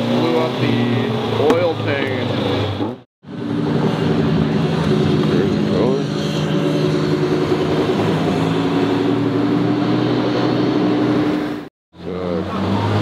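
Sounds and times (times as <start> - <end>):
another engine: 0.0 - 13.0
sports car engine pulling away: 0.0 - 13.0.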